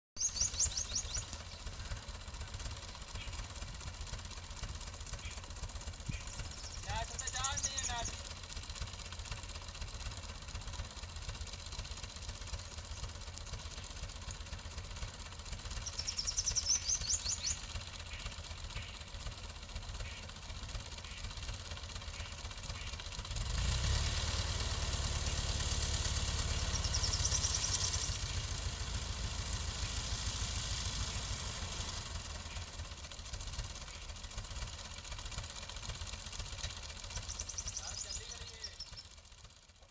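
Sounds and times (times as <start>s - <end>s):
tractor diesel engine running: 0.2s - 39.9s.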